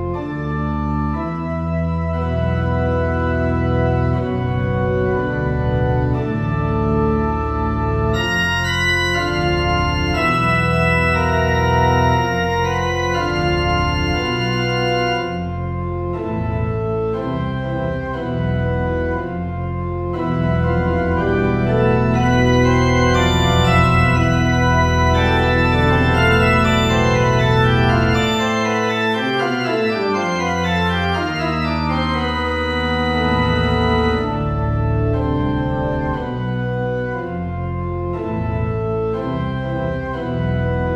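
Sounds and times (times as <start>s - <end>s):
organ playing slow chords: 0.0s - 40.9s.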